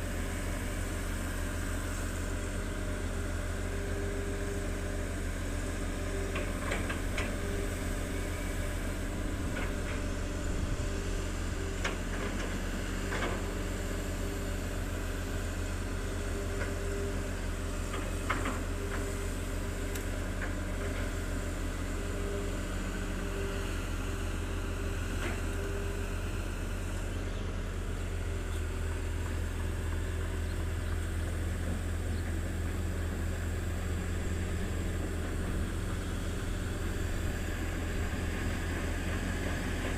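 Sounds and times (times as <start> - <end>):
excavator diesel engines droning: 0.0 - 39.9.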